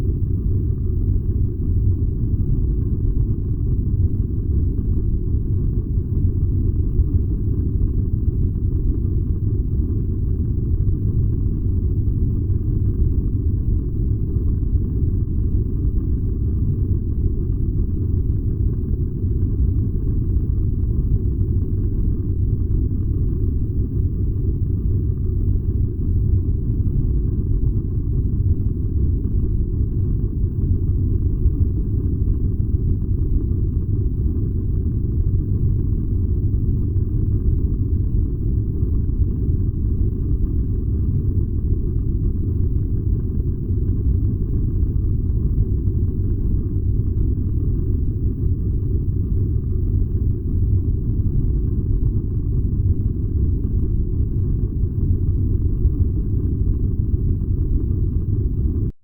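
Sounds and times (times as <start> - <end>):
furnace low rumble: 0.0 - 59.0.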